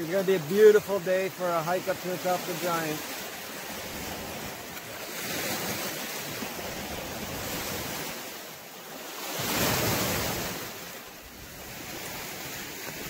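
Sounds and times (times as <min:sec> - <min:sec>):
waves washing onto stony beach: 0:00.0 - 0:13.0.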